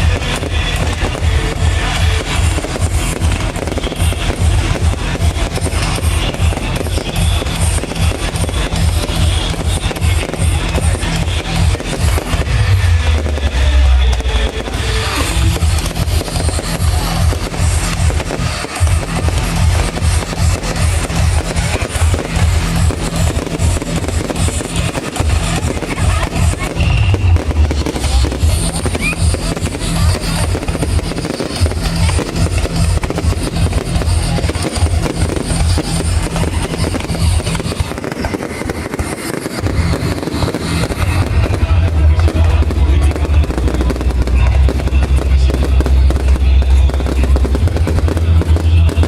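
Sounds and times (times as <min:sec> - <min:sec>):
fireworks bursting and crackling: 0:00.0 - 0:49.0
loud music with bass beat: 0:00.0 - 0:49.0.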